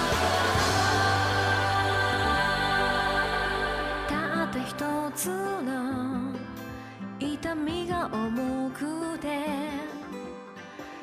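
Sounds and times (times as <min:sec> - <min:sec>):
pop song with singer: 0:00.0 - 0:11.0.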